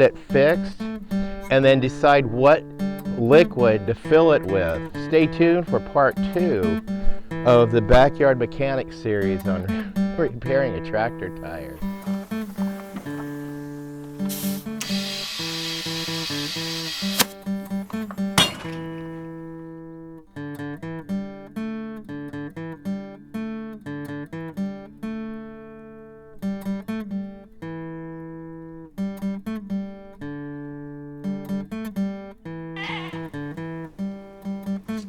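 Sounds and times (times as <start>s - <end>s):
plucked acoustic guitar melody: 0.0s - 35.0s.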